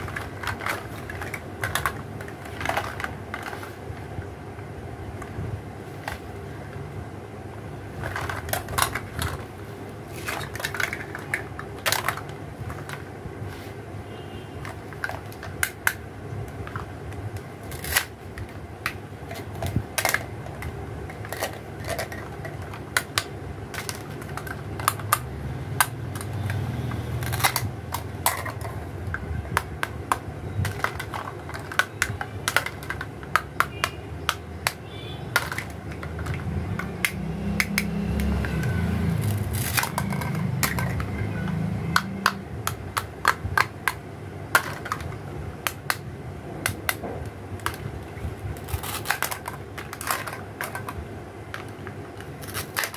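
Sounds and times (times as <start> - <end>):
plastic toy pieces clacking: 0.0 - 3.7, 7.9 - 9.5, 10.1 - 13.1, 14.6 - 52.9.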